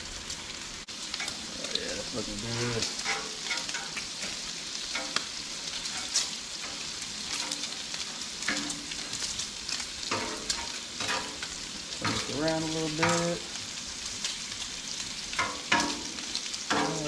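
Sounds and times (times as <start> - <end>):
bacon sizzling on a griddle: 0.0 - 17.0.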